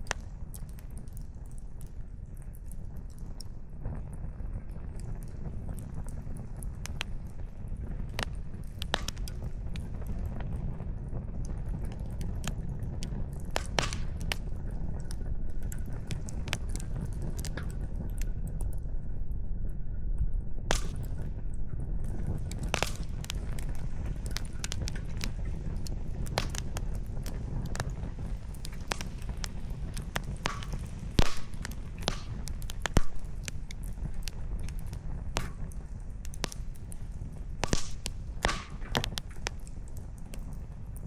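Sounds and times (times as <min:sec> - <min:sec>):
campfire crackling and popping: 0:00.0 - 0:19.3, 0:20.6 - 0:41.0.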